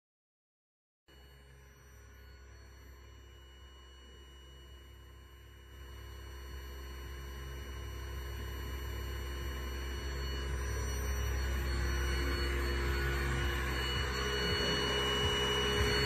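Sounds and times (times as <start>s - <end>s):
vibrator motor humming: 1.3s - 16.0s.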